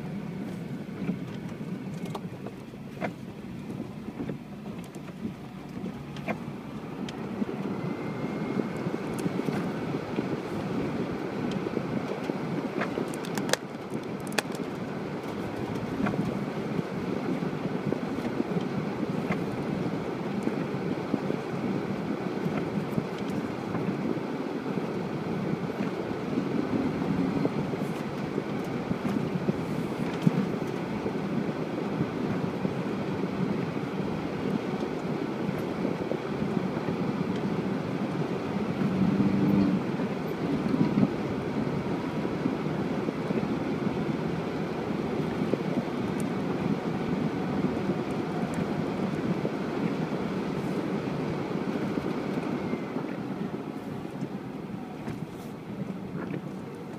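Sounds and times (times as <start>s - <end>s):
suv engine driving off-road: 0.0s - 56.9s.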